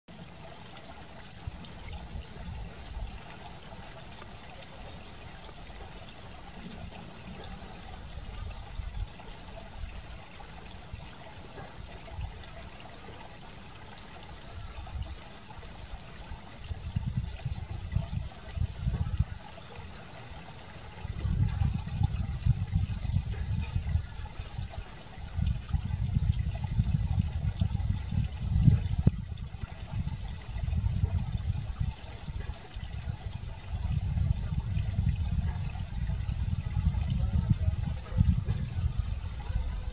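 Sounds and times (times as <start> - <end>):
running water trickling: 0.1 - 39.9.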